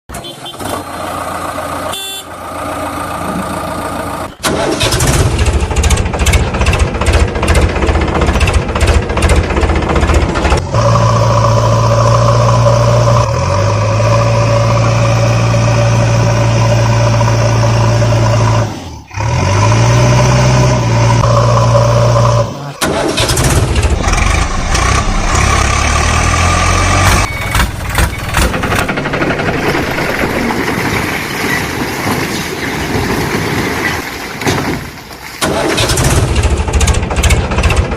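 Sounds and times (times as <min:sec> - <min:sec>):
diesel engine working hard: 0:00.5 - 0:31.2, 0:35.4 - 0:37.9.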